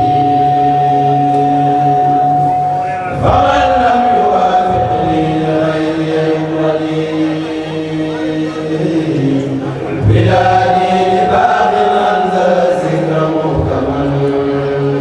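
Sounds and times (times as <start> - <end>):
group chanting religious verses: 0.0 - 15.0.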